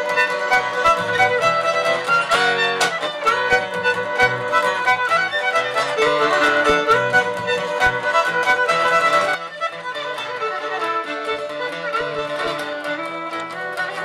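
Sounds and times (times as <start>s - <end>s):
acoustic guitar strumming: 0.0s - 14.0s
fiddle playing long bowed notes: 0.0s - 14.0s.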